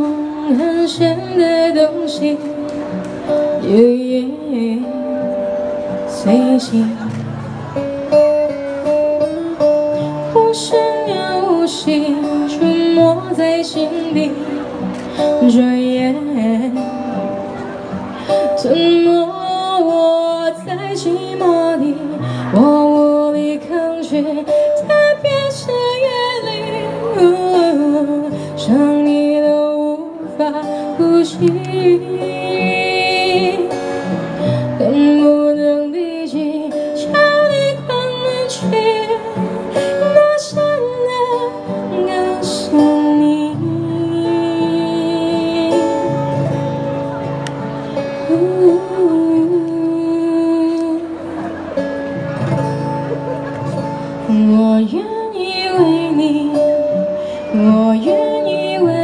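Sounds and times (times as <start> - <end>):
woman singing: 0.0 - 7.2, 9.2 - 17.4, 18.4 - 46.6, 48.2 - 51.6, 54.2 - 59.0
acoustic guitar: 0.0 - 59.0.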